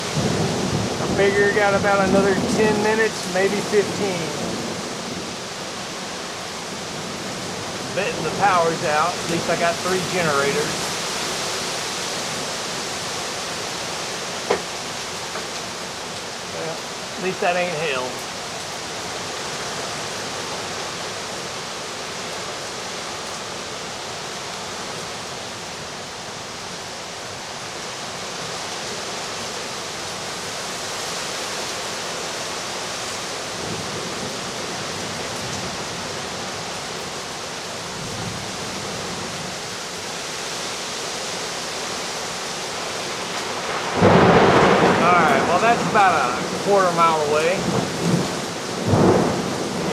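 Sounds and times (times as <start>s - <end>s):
heavy rain: 0.0s - 49.9s
wind: 0.0s - 49.9s.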